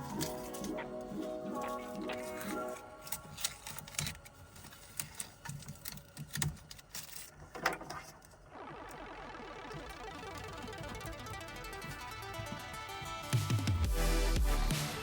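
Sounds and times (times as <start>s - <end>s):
background music: 0.0s - 6.0s, 8.6s - 15.0s.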